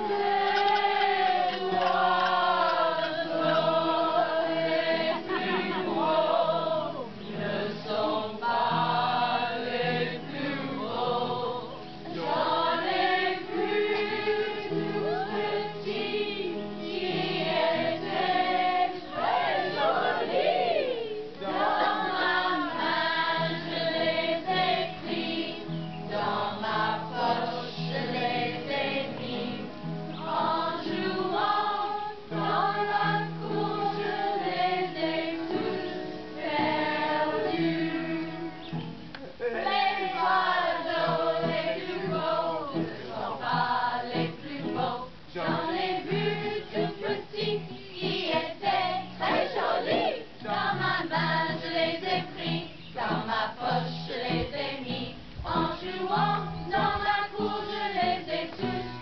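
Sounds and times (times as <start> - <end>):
children and adults singing: 0.0 - 59.0.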